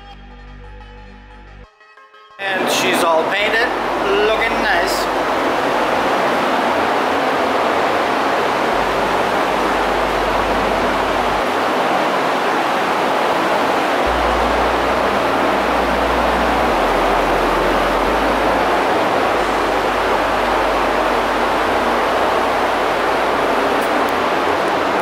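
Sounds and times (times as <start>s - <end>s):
steady rushing noise: 2.6s - 25.0s.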